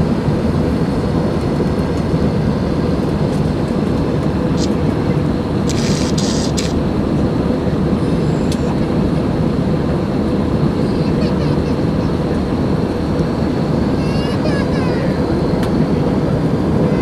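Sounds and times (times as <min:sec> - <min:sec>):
airflow and engine rumble: 0:00.0 - 0:17.0.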